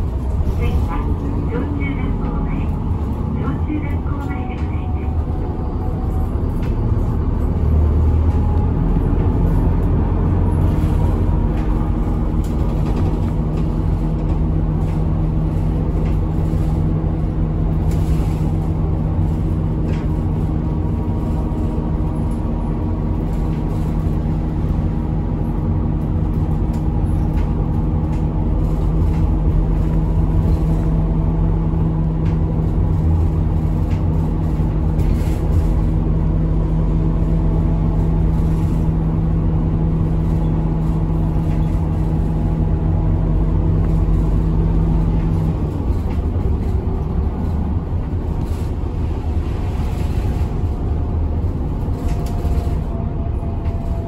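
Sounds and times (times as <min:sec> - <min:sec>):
bus engine hum: 0:00.0 - 0:54.0
road rumble: 0:00.0 - 0:54.0.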